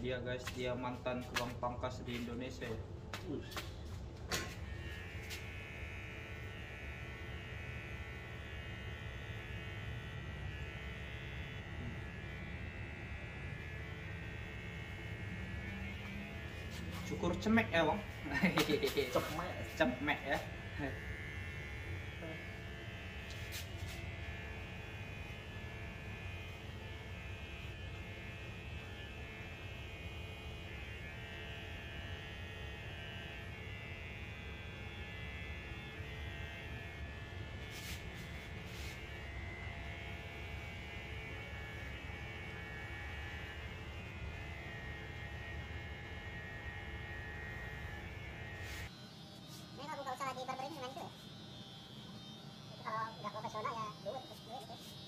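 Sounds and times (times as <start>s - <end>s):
hair clippers buzzing: 0.0s - 55.0s.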